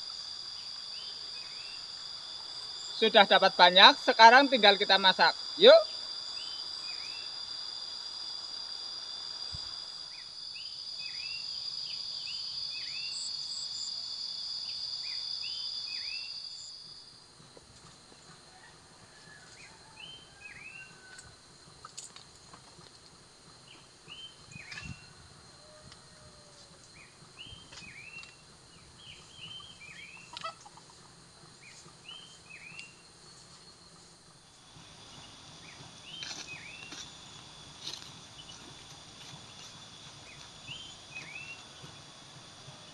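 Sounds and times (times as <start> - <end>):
high insect drone: 0.0 - 42.9.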